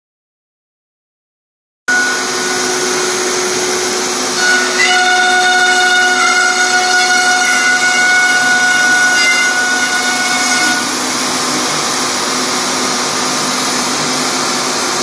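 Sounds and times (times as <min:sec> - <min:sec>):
high whine: 0:01.9 - 0:15.0
wood router cutting board: 0:01.9 - 0:15.0.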